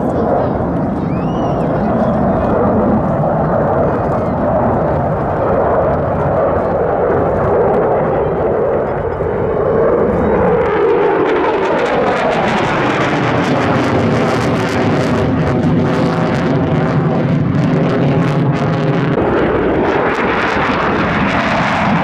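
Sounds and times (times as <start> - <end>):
jet engine roar overhead: 0.0 - 22.0.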